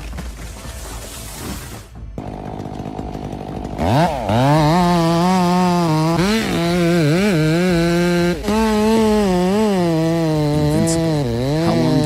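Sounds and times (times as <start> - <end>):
chainsaw running at high revs: 2.2 - 12.0.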